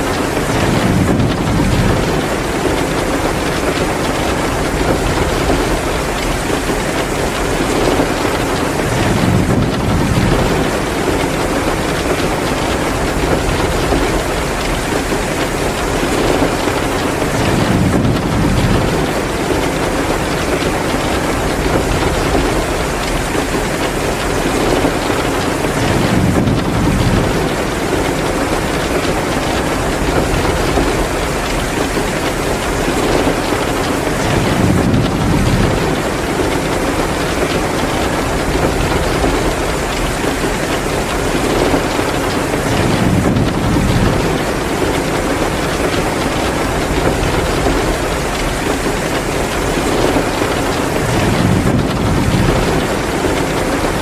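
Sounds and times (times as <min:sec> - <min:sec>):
heavy downpour: 0:00.0 - 0:54.0.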